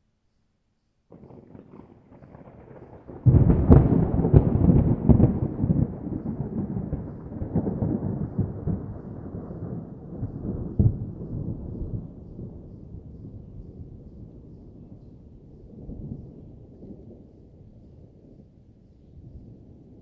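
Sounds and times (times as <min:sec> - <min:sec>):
thunder cracks and rumble: 0:01.1 - 0:18.6.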